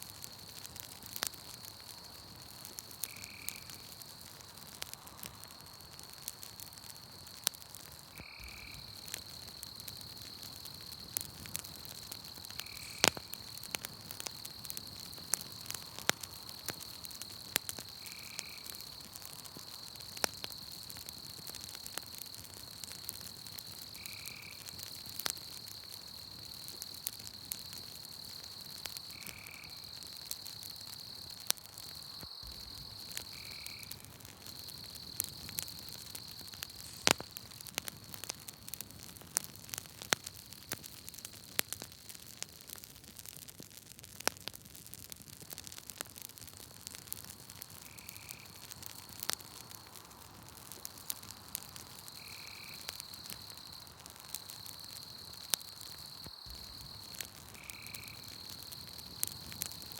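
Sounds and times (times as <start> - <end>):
night insects trilling: 0.0 - 43.5, 45.0 - 59.9
campfire crackling: 0.0 - 59.9.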